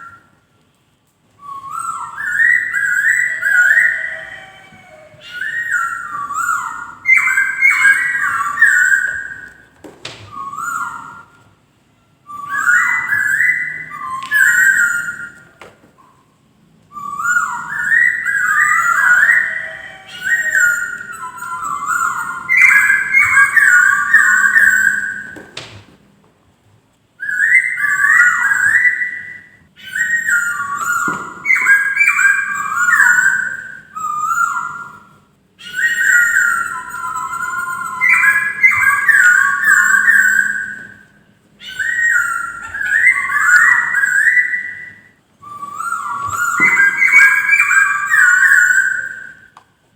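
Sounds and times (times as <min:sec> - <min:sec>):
bird whistling song: 0:00.0 - 0:00.4, 0:01.4 - 0:11.6, 0:12.2 - 0:25.8, 0:27.2 - 0:49.8.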